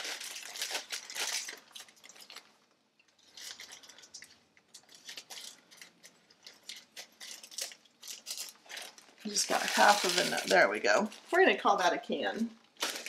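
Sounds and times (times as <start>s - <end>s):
plastic bag crinkling: 0.0s - 11.6s, 12.6s - 13.0s.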